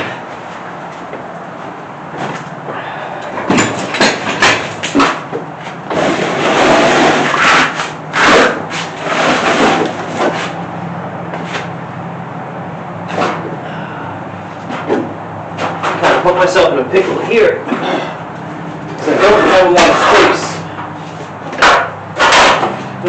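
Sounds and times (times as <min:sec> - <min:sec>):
heavy parts knocking and clunking: 0:00.0 - 0:11.8, 0:14.6 - 0:23.0
parts rubbing and scraping: 0:00.0 - 0:11.9, 0:14.4 - 0:23.0
steady low hum: 0:00.0 - 0:23.0.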